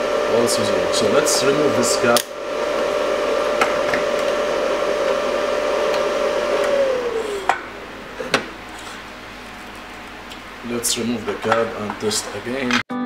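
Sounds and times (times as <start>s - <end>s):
electric fan whining: 0.0s - 12.8s.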